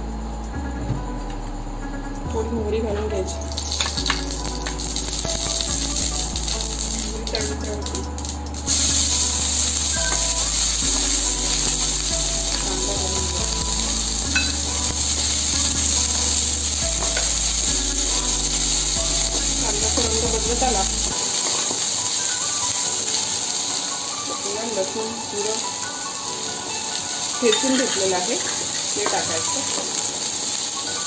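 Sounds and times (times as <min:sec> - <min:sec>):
induction cooktop hum: 0:00.0 - 0:31.0
seeds sizzling in hot oil: 0:02.8 - 0:31.0.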